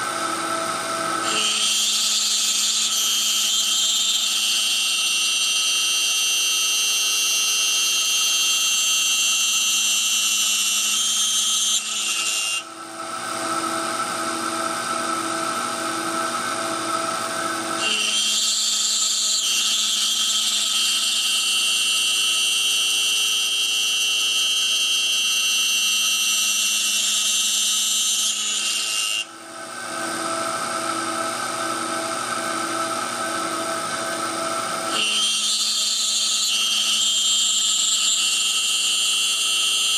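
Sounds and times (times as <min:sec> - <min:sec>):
router spindle milling wood: 0:00.0 - 0:39.9.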